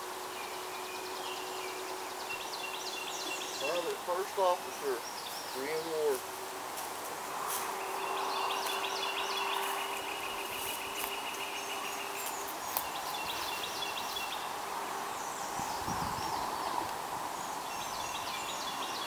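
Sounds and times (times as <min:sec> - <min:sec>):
background noise wash: 0:00.0 - 0:19.0
birds chirping: 0:00.0 - 0:19.0.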